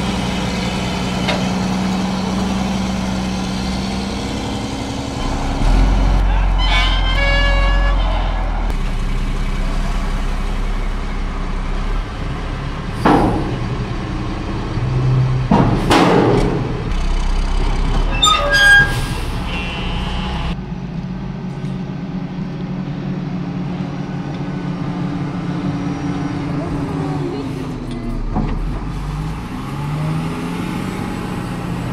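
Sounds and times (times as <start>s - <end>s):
dump truck diesel engine: 0.0s - 31.9s
wheel loader diesel engine: 0.0s - 31.9s.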